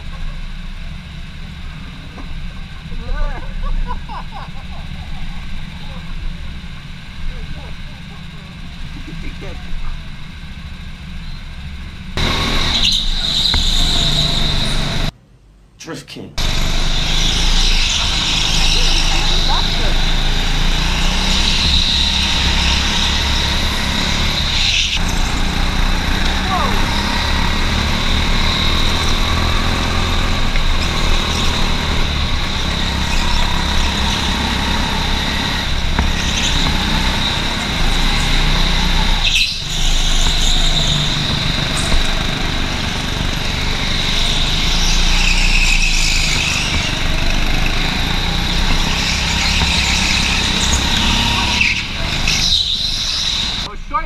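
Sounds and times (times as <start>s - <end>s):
go-kart engine running: 0.0s - 15.1s, 16.4s - 54.0s.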